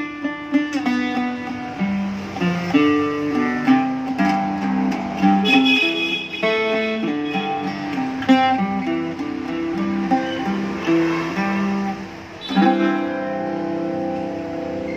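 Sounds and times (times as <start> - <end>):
picked mandocello melody: 0.0 - 14.9
strummed mandocello chord: 0.0 - 14.9.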